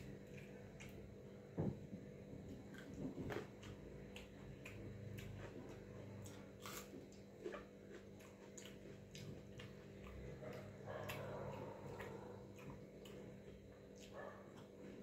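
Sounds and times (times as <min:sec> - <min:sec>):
person chewing with wet smacks: 0:00.0 - 0:01.3, 0:02.4 - 0:15.0
steady low hum: 0:00.0 - 0:15.0.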